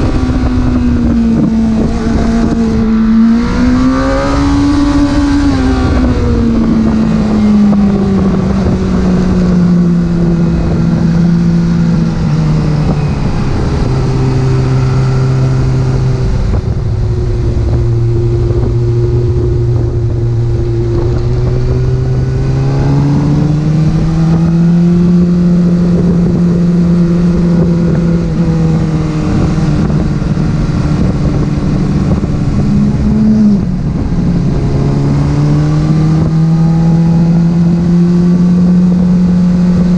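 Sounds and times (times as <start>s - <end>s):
car engine running: 0.0s - 39.9s
road and wind noise: 0.0s - 39.9s.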